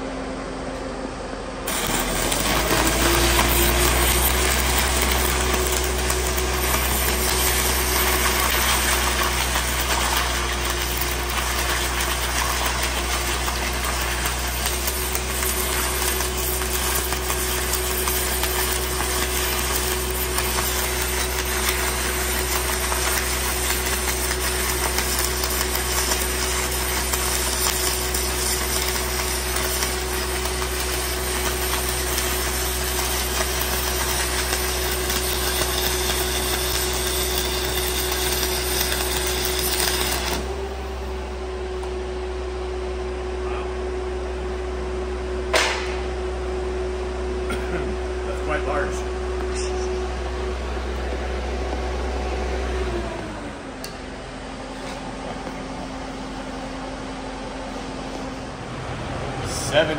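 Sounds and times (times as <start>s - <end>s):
welder engine hum: 0.0s - 59.9s.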